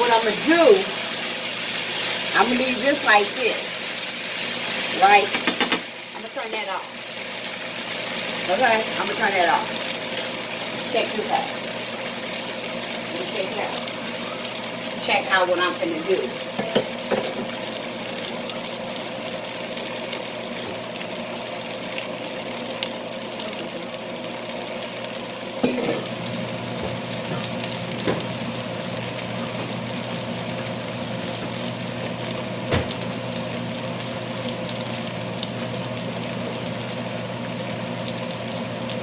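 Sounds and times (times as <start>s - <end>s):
food sizzling in skillet: 0.0s - 39.0s.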